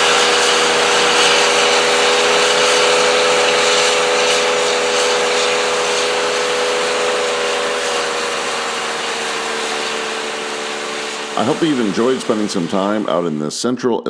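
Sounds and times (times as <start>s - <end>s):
combine harvester running: 0.0s - 13.4s.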